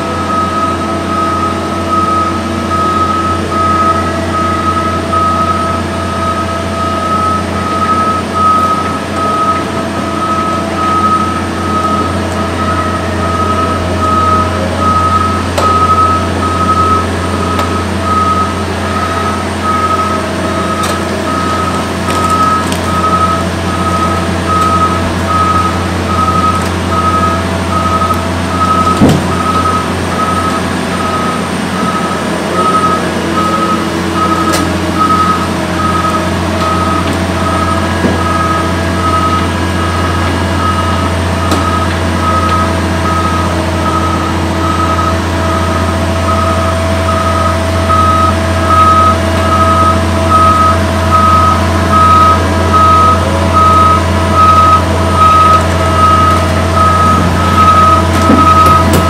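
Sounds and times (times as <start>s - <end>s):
diesel engine running: 0.0s - 59.0s
reversing alarm beeping: 0.0s - 59.0s.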